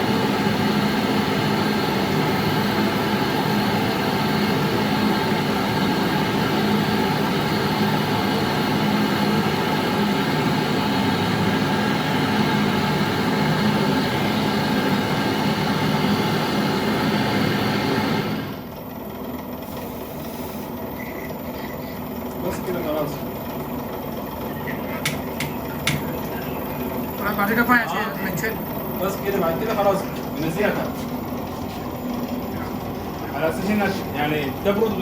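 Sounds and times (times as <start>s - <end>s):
gas torch flame burning: 0.0s - 18.7s, 24.9s - 35.0s.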